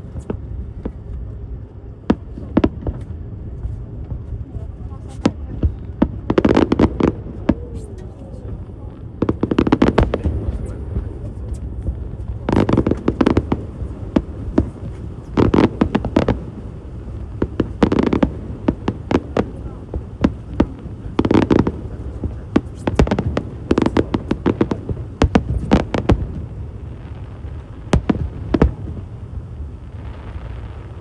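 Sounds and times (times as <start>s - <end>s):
fireworks bangs and booms: 0.0s - 31.0s
fireworks crackling: 2.0s - 31.0s.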